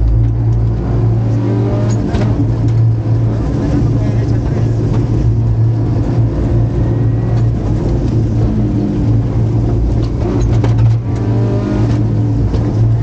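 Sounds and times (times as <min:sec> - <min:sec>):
rally car engine from inside: 0:00.0 - 0:13.0.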